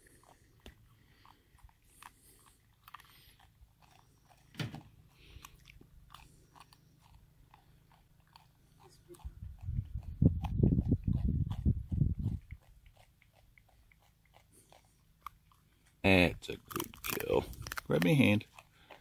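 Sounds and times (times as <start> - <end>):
animal chewing crunchy food: 0.0 - 19.0.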